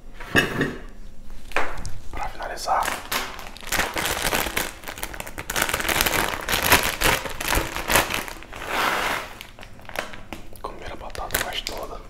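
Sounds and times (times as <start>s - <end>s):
plastic snack bag crinkling: 2.2s - 12.0s.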